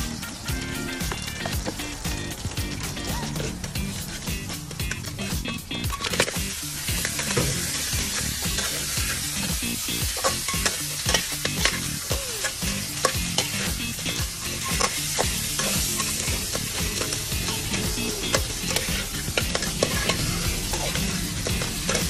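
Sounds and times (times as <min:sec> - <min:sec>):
food sizzling in a pan: 0:00.0 - 0:22.0
utensil scraping and knocking pan: 0:03.4 - 0:22.0.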